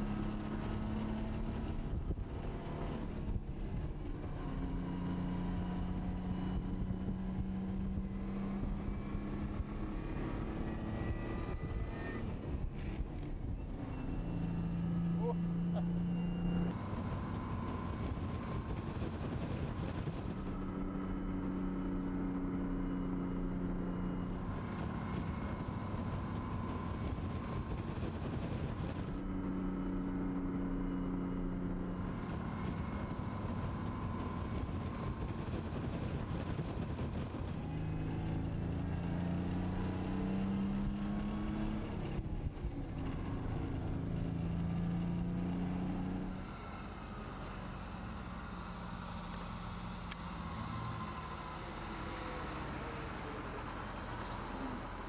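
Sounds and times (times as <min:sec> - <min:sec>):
diesel truck engine under load: 0:00.0 - 0:55.0.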